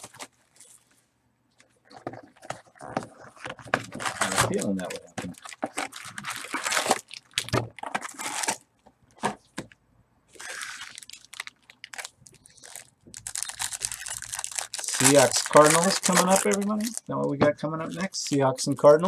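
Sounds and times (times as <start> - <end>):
plastic and foil packs crinkling: 0.0 - 0.9, 1.8 - 8.6, 10.3 - 18.4.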